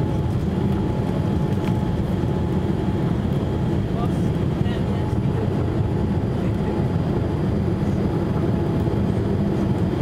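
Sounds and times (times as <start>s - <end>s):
airplane cabin engine rush: 0.0s - 10.0s.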